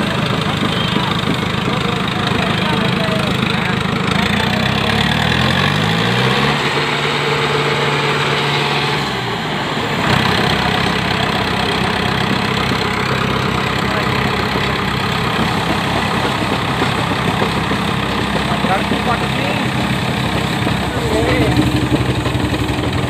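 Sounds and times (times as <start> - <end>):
tractor engines under heavy load: 0.0 - 23.0.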